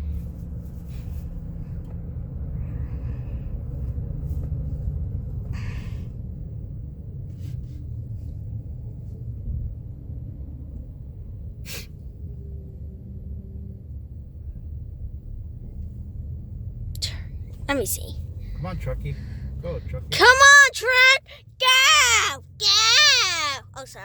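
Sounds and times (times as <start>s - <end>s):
truck road and engine rumble: 0.0s - 24.0s.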